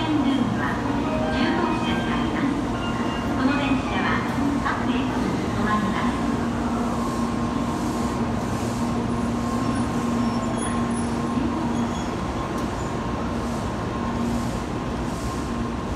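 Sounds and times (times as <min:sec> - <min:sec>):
train running noise: 0:00.0 - 0:15.9.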